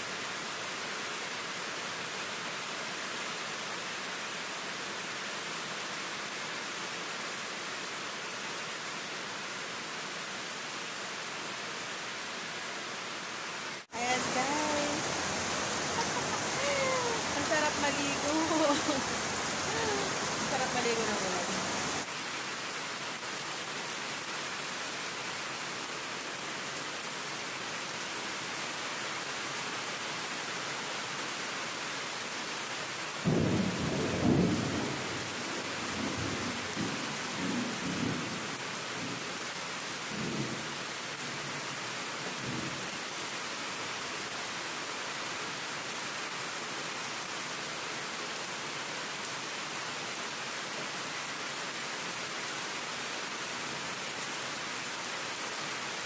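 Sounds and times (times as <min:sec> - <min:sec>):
rain on concrete: 0:00.0 - 0:56.0.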